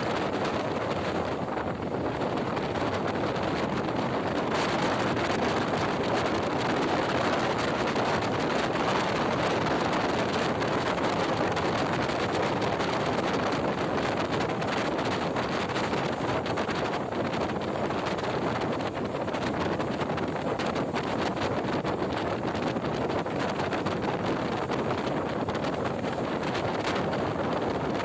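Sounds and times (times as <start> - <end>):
train rumbling on track: 0.0 - 28.0
wind rushing past train window: 0.0 - 28.0.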